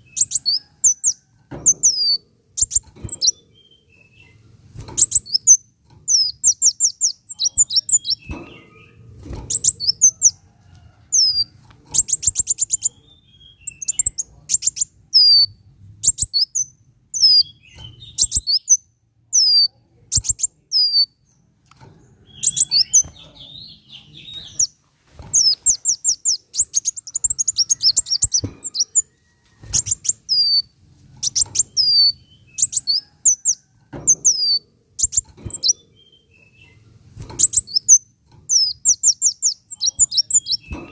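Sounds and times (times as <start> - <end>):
bird chirping and trilling: 0.0 - 4.4, 5.0 - 10.4, 11.1 - 21.3, 22.2 - 24.7, 25.3 - 36.8, 37.4 - 40.9.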